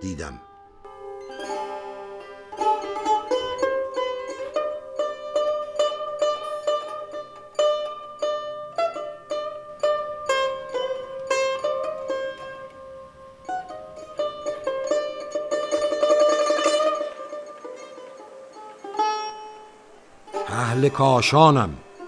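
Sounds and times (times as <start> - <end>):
plucked string instrument: 0.0 - 22.0.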